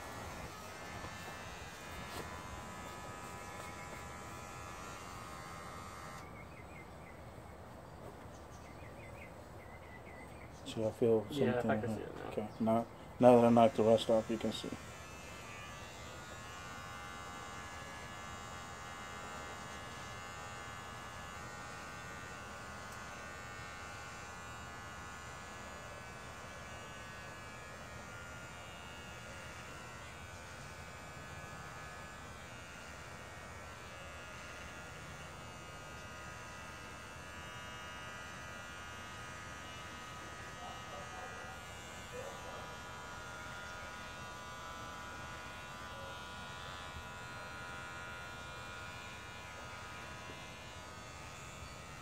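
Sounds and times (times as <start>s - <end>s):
electric hair clippers buzzing: 0.0s - 7.3s, 11.4s - 52.0s.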